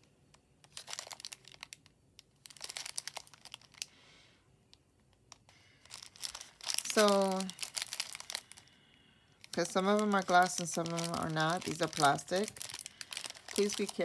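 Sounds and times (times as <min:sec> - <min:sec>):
plastic bags crinkling: 0:00.6 - 0:04.0, 0:05.3 - 0:14.0.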